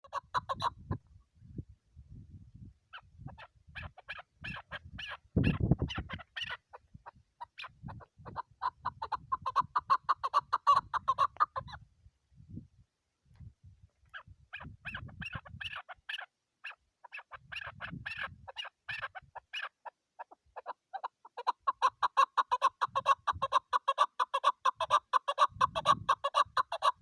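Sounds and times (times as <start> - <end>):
partridge clucking calls: 0.0 - 1.0, 2.9 - 11.8, 14.0 - 27.0.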